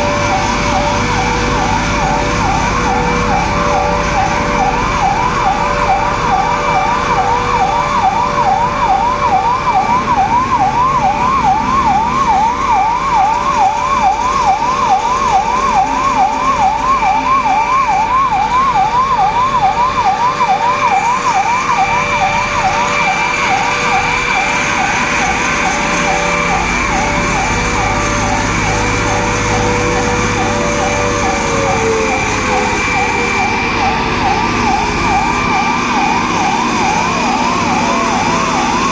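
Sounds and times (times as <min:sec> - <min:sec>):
steady siren tone: 0:00.0 - 0:38.9
warbling siren: 0:00.0 - 0:38.9.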